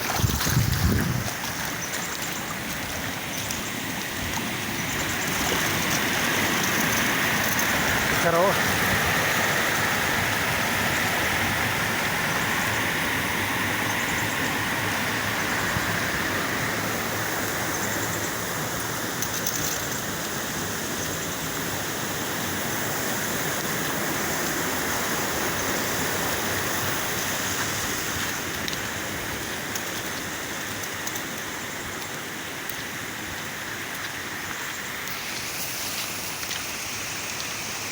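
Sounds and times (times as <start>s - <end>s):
steady water noise: 0.0s - 37.9s.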